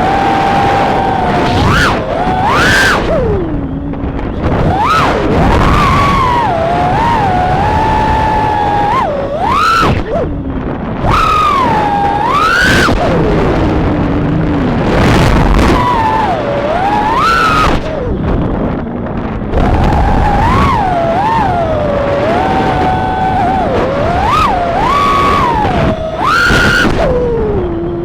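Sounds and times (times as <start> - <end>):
quadcopter motors whining: 0.0 - 28.0
wind noise: 0.0 - 28.0.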